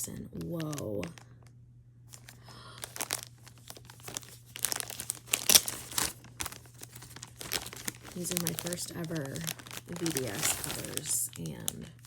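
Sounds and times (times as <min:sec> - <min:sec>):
packaging crinkling and rustling: 0:00.2 - 0:12.0.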